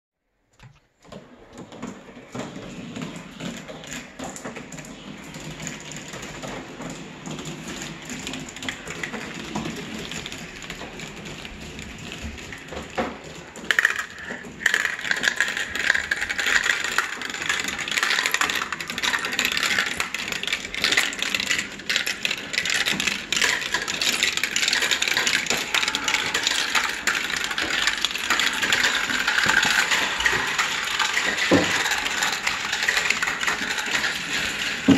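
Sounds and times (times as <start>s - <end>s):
marbles rattling through plastic track: 1.1s - 34.9s.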